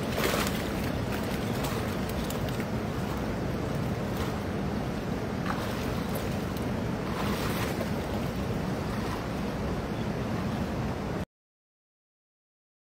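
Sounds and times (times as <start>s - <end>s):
faint splashes of wading: 0.0s - 10.5s
river rushing: 0.0s - 11.2s
wind on microphone: 0.0s - 11.2s.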